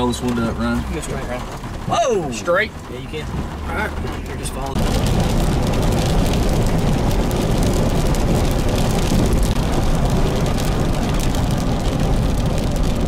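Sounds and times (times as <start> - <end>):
car road and engine rumble: 0.0 - 13.0
rain ticking on car: 0.0 - 13.0.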